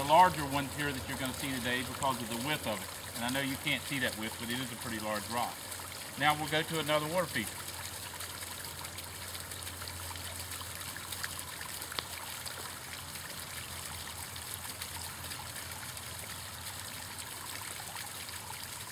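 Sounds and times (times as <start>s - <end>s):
fountain water trickling: 0.0s - 18.9s.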